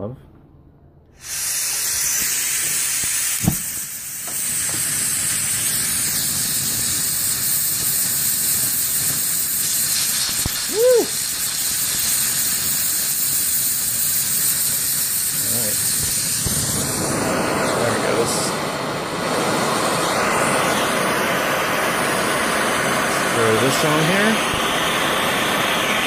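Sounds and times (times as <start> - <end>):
gas burner hissing: 1.1 - 26.0.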